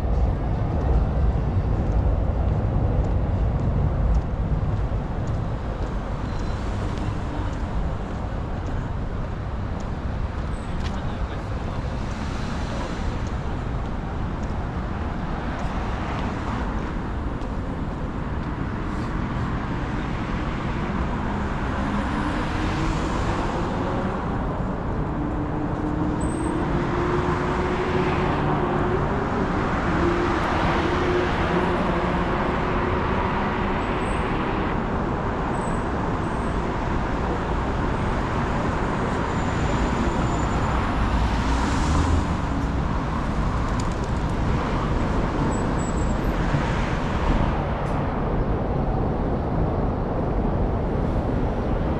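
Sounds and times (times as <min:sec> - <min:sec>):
traffic hum of tyres and engines: 0:00.0 - 0:51.9.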